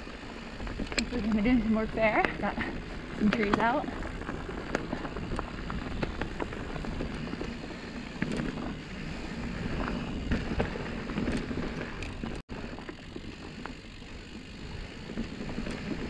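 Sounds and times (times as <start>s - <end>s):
bike clicks and rattles: 0.0s - 16.0s
bike tyre rumble on dirt: 0.0s - 16.0s.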